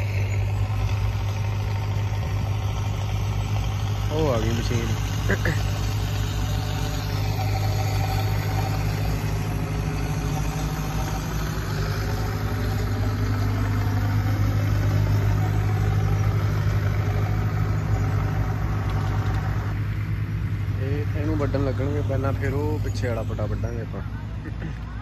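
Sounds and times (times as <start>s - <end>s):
combine harvester engine running: 0.0s - 25.0s.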